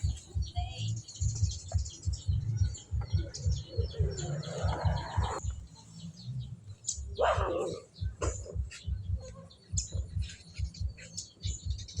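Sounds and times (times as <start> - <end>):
low pulsing: 0.0 - 11.0
bird-like chirping: 0.0 - 12.0.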